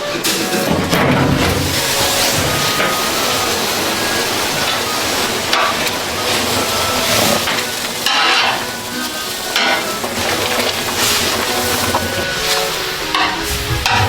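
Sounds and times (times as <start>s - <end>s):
machinery hissing: 0.0s - 14.0s.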